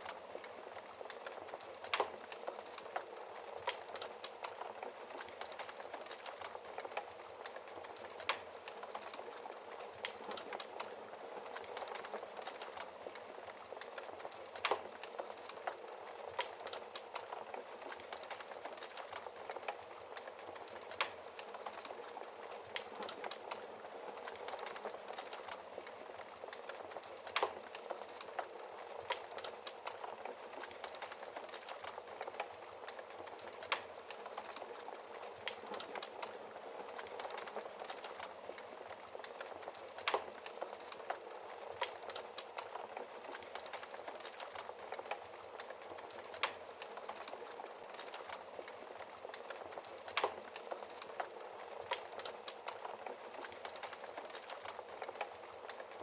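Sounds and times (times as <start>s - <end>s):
burning logs popping: 0.0s - 56.0s
fireplace fire crackling: 0.0s - 56.0s.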